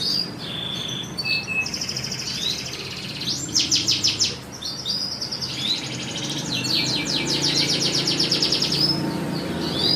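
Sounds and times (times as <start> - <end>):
canary singing: 0.0 - 9.9.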